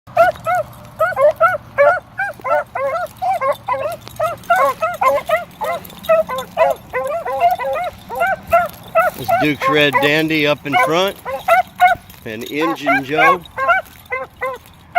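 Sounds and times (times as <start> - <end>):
hounds baying: 0.1 - 14.9.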